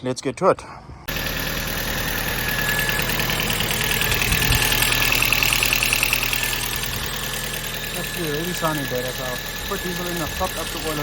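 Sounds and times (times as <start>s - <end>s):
car engine idling with ticking: 1.1s - 11.0s.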